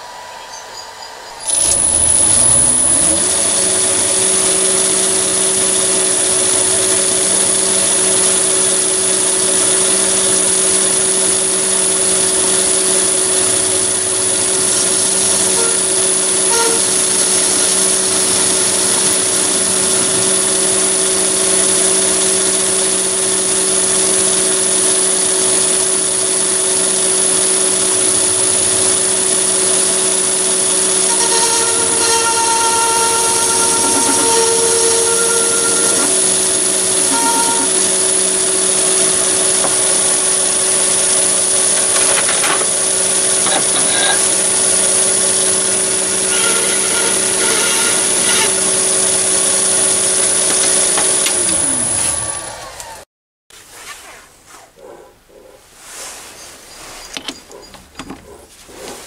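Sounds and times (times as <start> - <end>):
metal lathe motor whining: 0.0 - 53.0.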